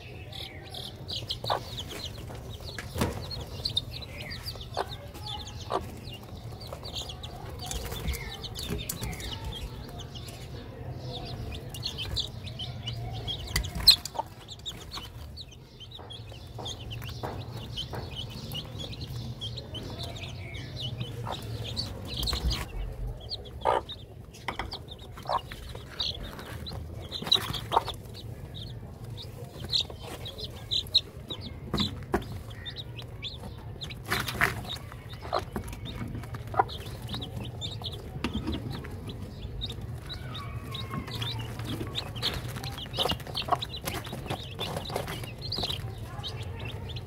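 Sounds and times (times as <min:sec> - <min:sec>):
baby chicks peeping: 0:00.0 - 0:47.0
beaks pecking at grain: 0:00.0 - 0:47.0
hen clucking: 0:00.0 - 0:47.0.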